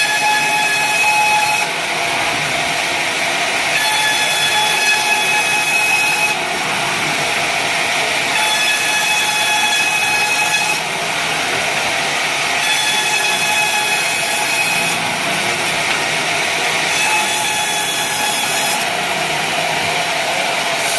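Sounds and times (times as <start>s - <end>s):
saw blade cutting timber: 0.0s - 20.9s.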